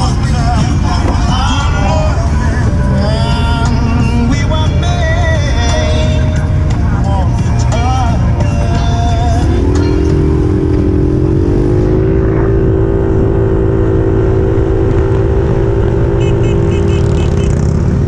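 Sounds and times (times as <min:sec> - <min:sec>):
quad engine accelerating: 0:00.0 - 0:18.0.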